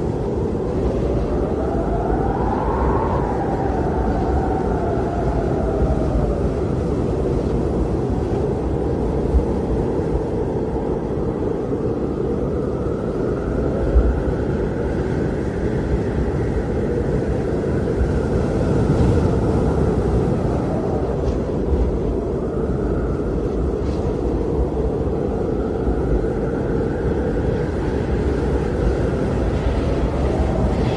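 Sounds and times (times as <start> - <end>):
blizzard wind howling: 0.0 - 30.9.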